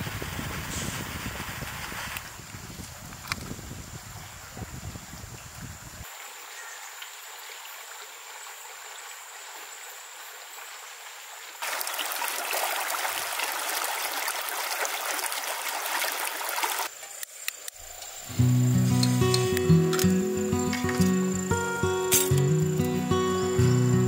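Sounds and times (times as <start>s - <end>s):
stream running over rocks: 4.5s - 24.0s.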